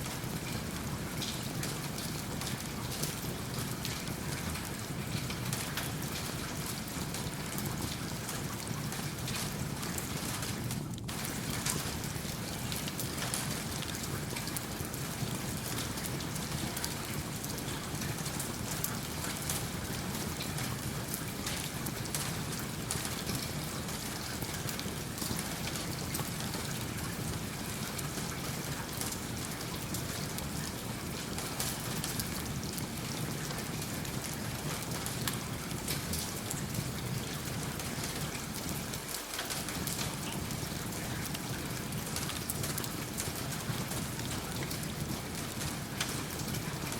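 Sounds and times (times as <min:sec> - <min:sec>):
steady rain: 0:00.0 - 0:46.9
wood fire crackling: 0:05.1 - 0:46.9.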